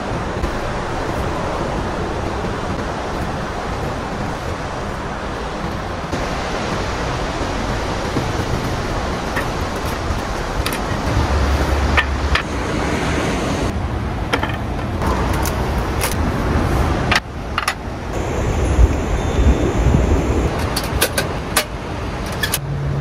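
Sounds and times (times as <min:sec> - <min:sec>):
passing road traffic: 0:00.0 - 0:23.0.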